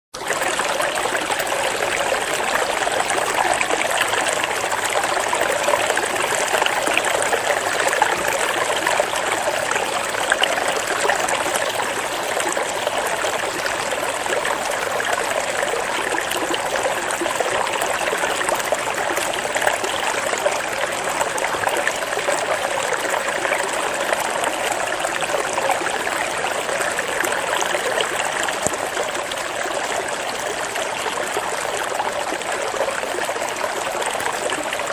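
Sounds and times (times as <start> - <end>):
stream water babbling: 0.2 - 34.9.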